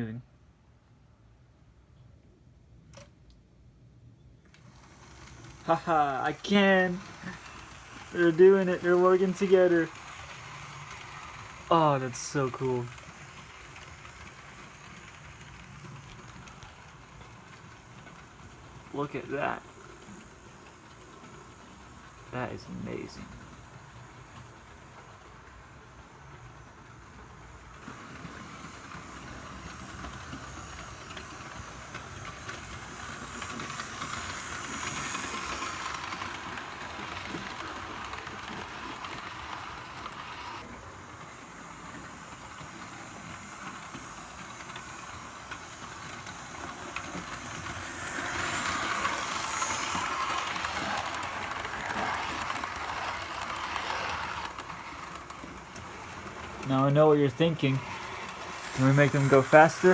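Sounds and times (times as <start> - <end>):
model train electric motors whirring: 4.4 - 59.9
wheels rolling on rails: 4.4 - 59.9.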